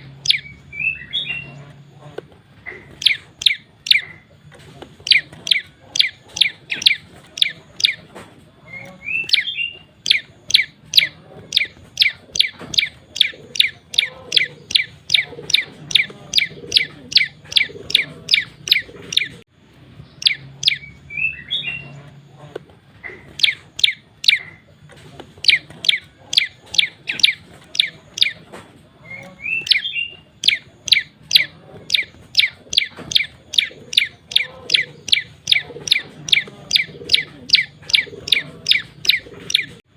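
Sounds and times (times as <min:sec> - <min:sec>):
bird twittering phrases: 0:00.0 - 0:39.9.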